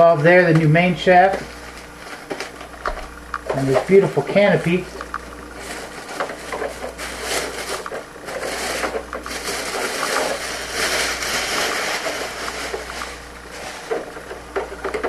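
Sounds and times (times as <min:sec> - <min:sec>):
plastic bag crinkling: 0:00.7 - 0:15.0.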